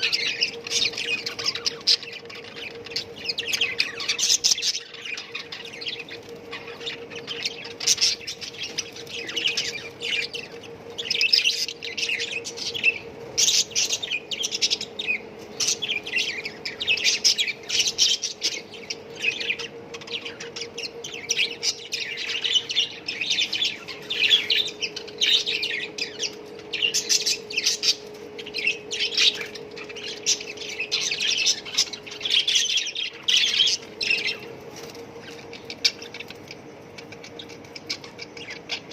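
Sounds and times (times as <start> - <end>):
budgerigars chattering and chirping: 0.0 - 38.9
faint steady hum: 0.0 - 38.9.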